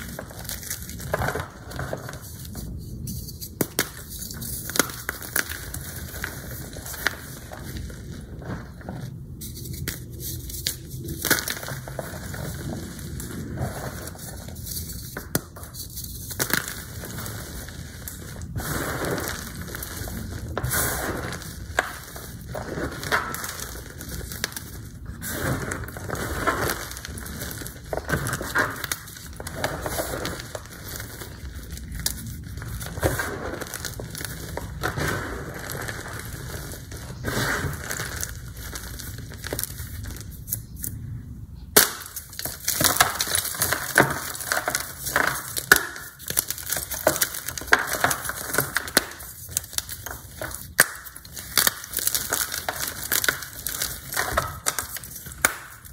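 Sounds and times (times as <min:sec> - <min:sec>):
hands crushing chalk powder: 0:00.0 - 0:41.0, 0:41.7 - 0:55.9.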